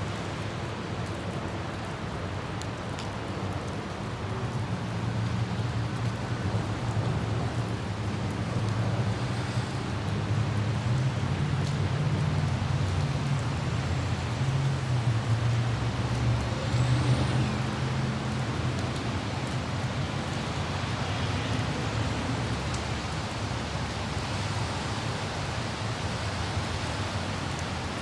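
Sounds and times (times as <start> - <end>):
rain hiss: 0.0 - 28.0
wind: 0.0 - 28.0.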